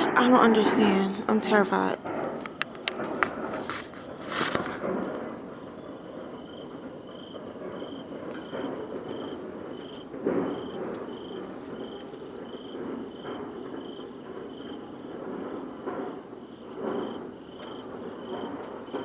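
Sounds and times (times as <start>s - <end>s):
insect chirping: 0.0s - 4.6s, 5.5s - 15.1s, 16.4s - 19.0s.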